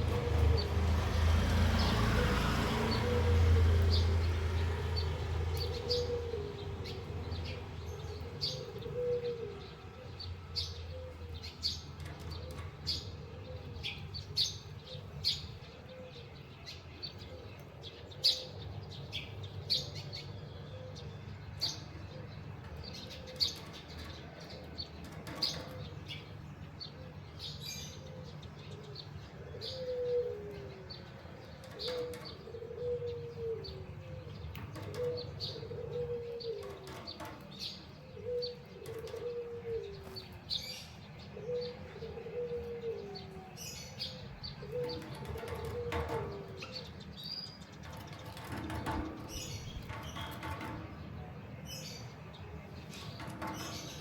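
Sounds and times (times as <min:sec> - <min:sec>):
doves cooing: 0:00.0 - 0:16.5, 0:17.1 - 0:54.0.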